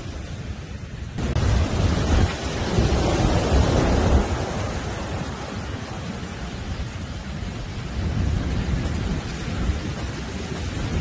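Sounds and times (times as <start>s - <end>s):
large waves breaking on shore: 0.0s - 11.0s.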